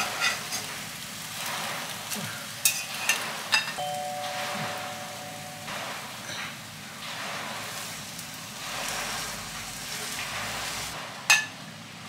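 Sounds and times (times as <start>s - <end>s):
omelette sizzling in a frying pan: 0.0s - 3.8s, 5.7s - 12.0s.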